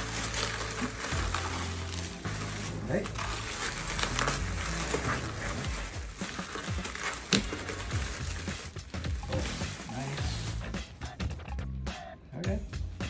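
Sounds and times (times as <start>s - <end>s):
bubble wrap crinkling: 0.0s - 11.1s
background music with bass: 0.0s - 13.0s.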